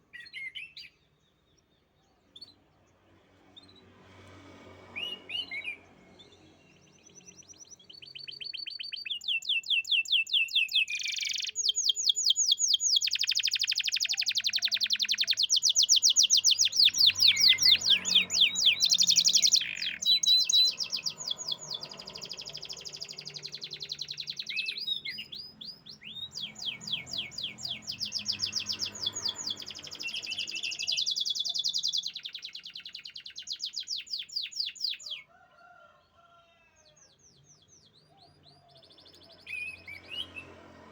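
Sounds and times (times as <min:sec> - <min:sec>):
canary singing fast trills: 0:04.9 - 0:35.8, 0:37.2 - 0:40.8.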